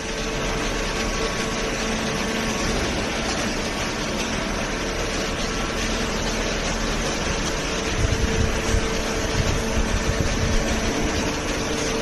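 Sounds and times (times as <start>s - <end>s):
baler machinery running: 0.0s - 12.0s.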